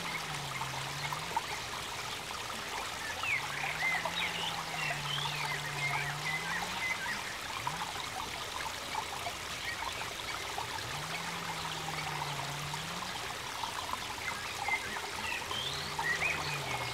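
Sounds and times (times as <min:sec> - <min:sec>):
water trickling into pond: 0:00.0 - 0:16.9.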